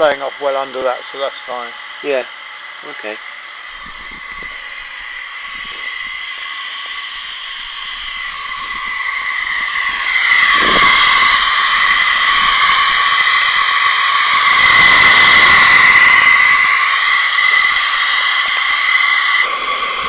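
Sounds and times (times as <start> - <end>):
steam safety valve hissing: 0.0 - 20.0.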